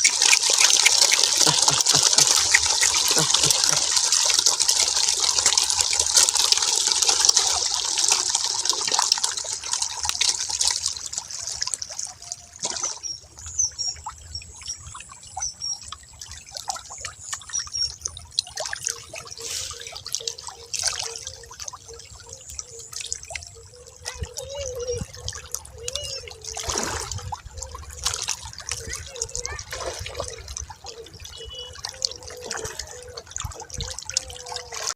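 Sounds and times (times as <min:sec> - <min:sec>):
water dripping: 0:00.0 - 0:34.9
water splashing and trickling: 0:00.0 - 0:34.9.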